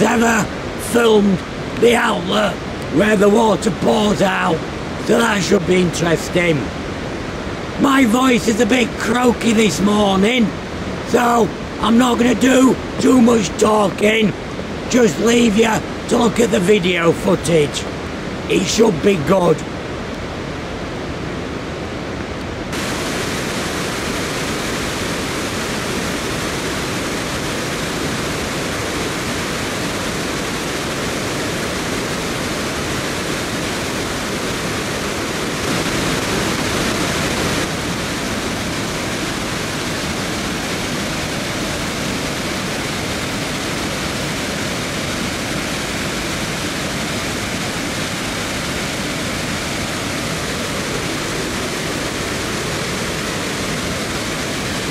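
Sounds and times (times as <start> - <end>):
water rushing down spillway: 0.0 - 20.0, 22.7 - 54.9.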